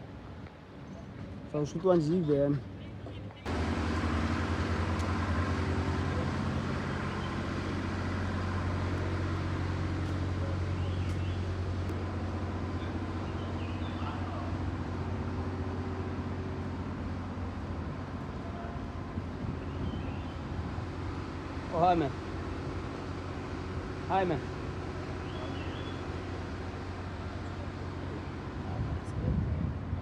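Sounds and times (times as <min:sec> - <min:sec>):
low engine-like hum: 0:00.0 - 0:30.0.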